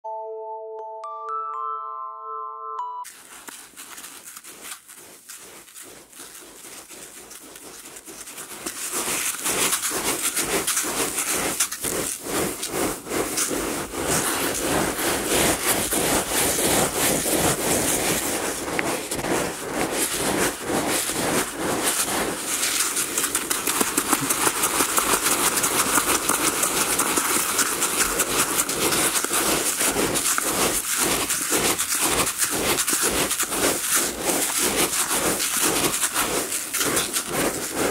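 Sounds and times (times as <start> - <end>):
hands churning dry rice: 3.1 - 37.9.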